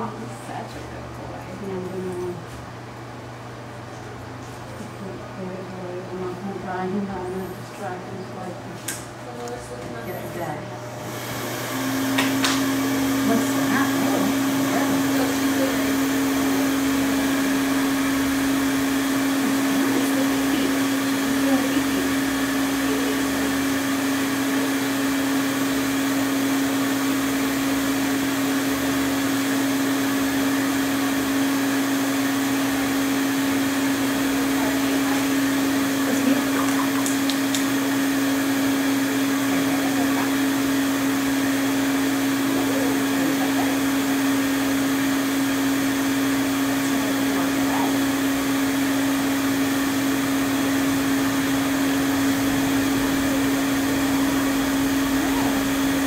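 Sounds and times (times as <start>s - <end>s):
electric motor hum: 9.2s - 56.0s.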